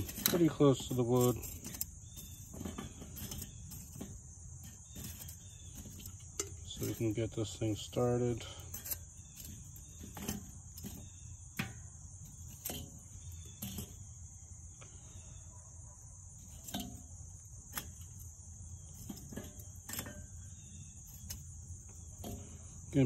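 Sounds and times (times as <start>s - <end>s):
grill tongs clicking: 0.0s - 14.0s, 16.4s - 18.3s, 18.9s - 22.6s
charcoal clinking on metal grate: 0.0s - 14.8s, 16.3s - 23.0s
crickets chirring: 0.0s - 23.0s.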